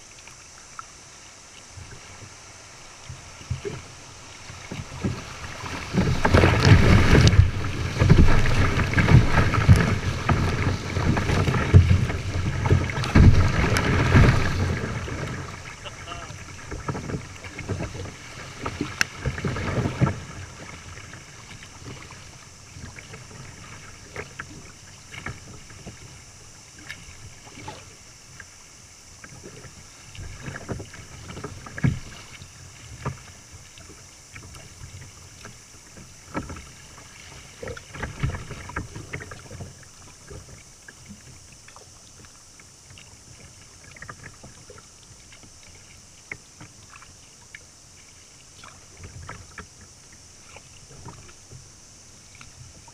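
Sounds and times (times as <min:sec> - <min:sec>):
rushing water: 0:00.0 - 0:52.9
water splashing against kayak hull: 0:00.0 - 0:52.9.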